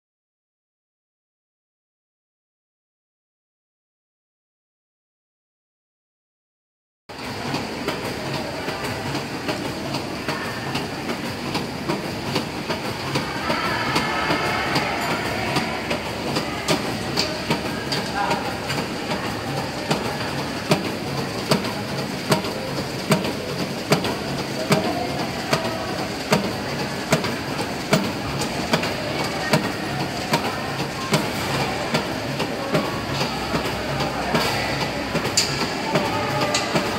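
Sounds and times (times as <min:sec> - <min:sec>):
conveyor belt clattering: 0:07.1 - 0:36.9.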